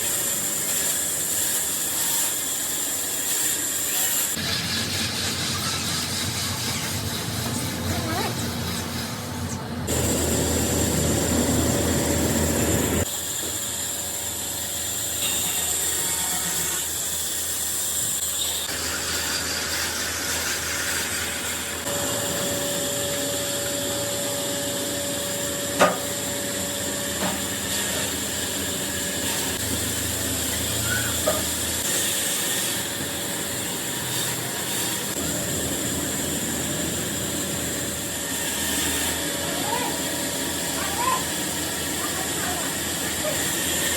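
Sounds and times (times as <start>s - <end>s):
machine hiss and hum: 0.0s - 43.9s.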